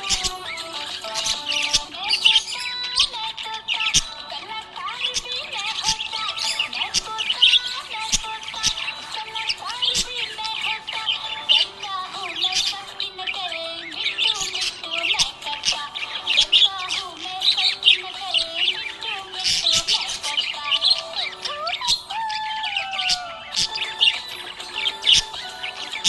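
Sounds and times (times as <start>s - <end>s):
budgerigars chirping and warbling: 0.0s - 26.0s.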